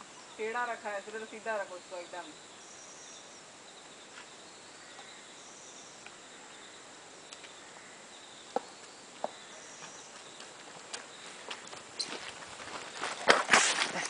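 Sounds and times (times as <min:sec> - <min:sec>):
high-pitched insect trills: 0:00.0 - 0:13.2
faint outdoor hiss: 0:00.0 - 0:14.0.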